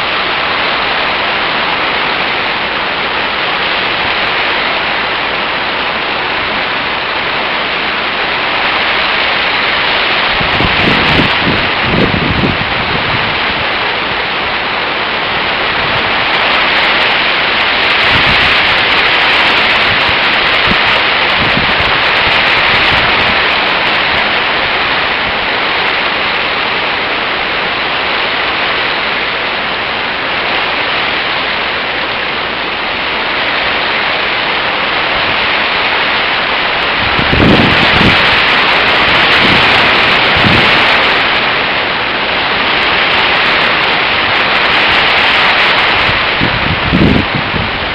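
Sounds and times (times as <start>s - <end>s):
heavy rain: 0.0s - 47.9s
strong wind: 0.0s - 47.9s
wind buffeting microphone: 0.0s - 47.9s.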